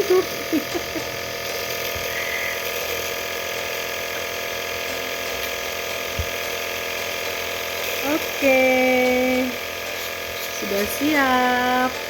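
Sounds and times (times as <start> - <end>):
compressor motor buzzing: 0.0 - 12.0.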